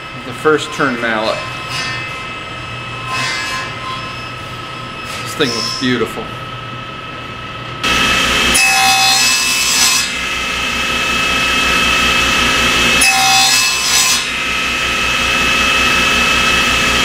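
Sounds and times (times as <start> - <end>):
saw cutting wood: 0.0 - 6.2, 7.8 - 17.0
table saw blade whine: 0.0 - 17.0.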